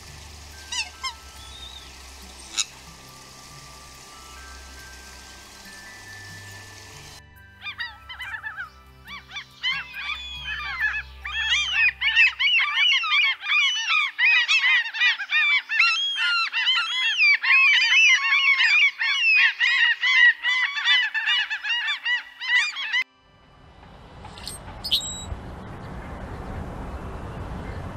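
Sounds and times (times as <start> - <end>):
gulls calling: 0.0 - 23.1.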